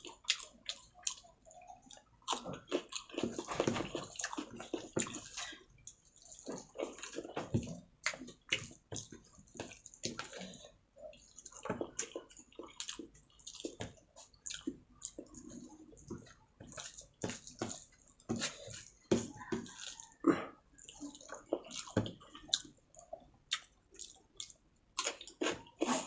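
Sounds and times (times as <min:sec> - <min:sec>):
wet chewing and lip-smacking: 0:00.0 - 0:26.0.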